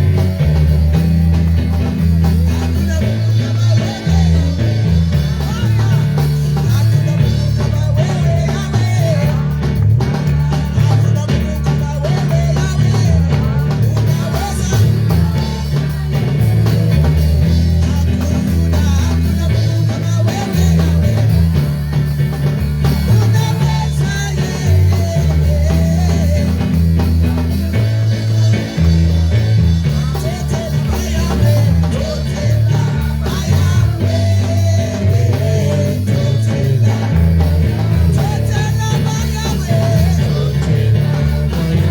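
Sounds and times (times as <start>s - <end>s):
bass line: 0.0s - 41.9s
live band music: 0.0s - 41.9s
person singing: 0.0s - 41.9s.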